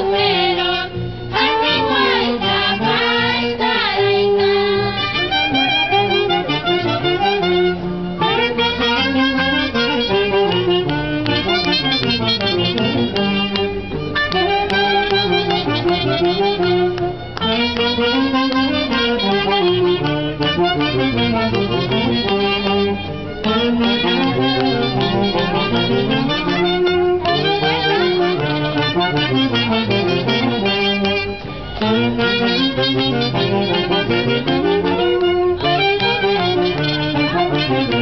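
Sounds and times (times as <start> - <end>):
wind band playing dance music: 0.0 - 38.0.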